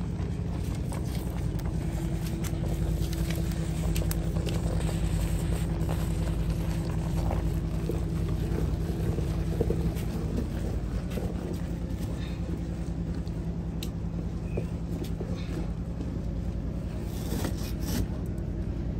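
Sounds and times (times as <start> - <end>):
low rumble with faint hum: 0.0 - 18.9.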